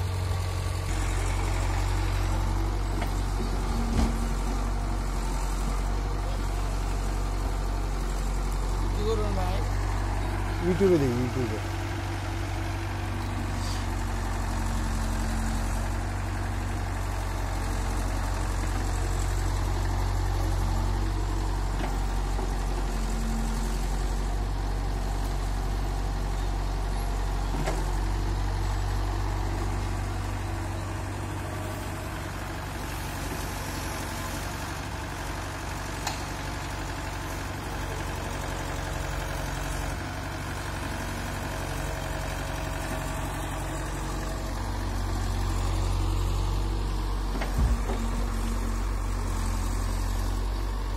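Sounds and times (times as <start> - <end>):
excavator diesel engine: 0.0 - 50.9
tractor idling: 0.0 - 50.9.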